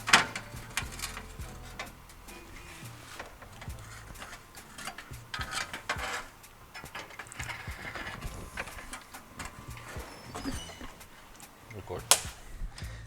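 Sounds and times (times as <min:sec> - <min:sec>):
plastic fan clicks and knocks: 0:00.0 - 0:12.9.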